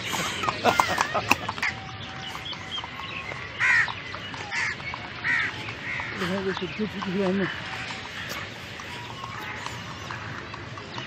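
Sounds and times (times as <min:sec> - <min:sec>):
harsh bird calls: 0:00.0 - 0:11.0.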